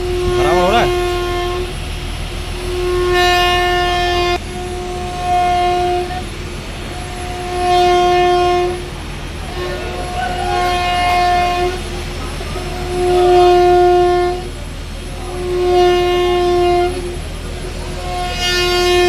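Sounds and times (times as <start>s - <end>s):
long horn-like tones: 0.0s - 19.0s
low steady hum: 0.0s - 19.0s.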